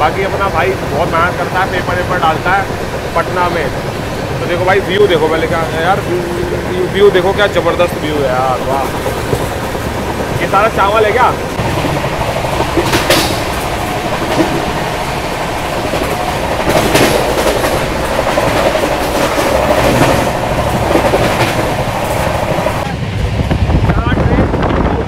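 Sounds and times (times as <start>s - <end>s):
wheels clacking over rail joints: 0.0s - 22.9s
train rumble: 0.0s - 25.0s.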